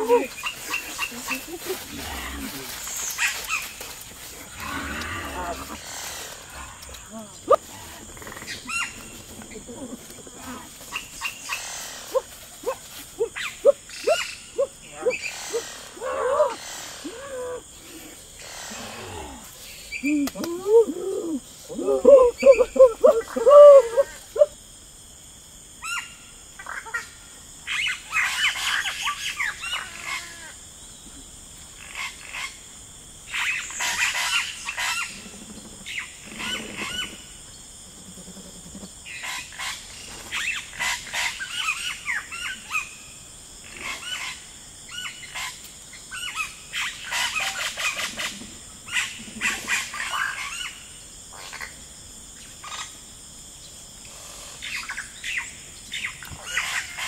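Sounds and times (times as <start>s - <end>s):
low croaking calls: 0.0s - 24.6s, 31.7s - 32.7s, 33.3s - 53.0s, 54.0s - 57.0s.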